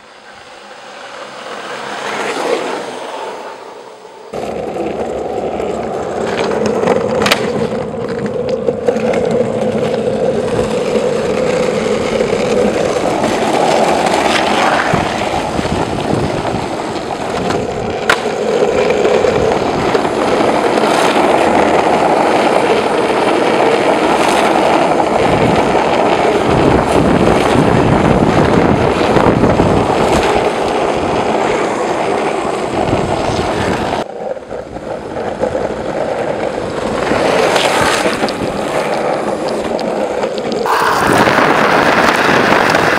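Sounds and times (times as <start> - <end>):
longboard wheels rolling on asphalt: 0.0 - 42.9.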